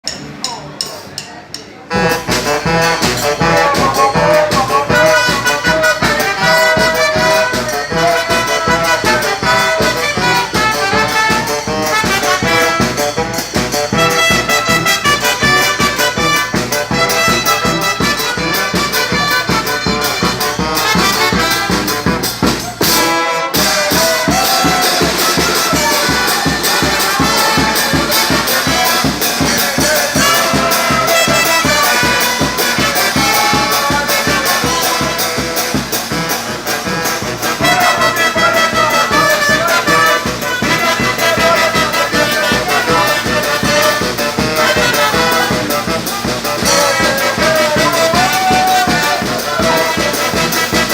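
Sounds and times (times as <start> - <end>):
brass street band playing: 0.0 - 50.9.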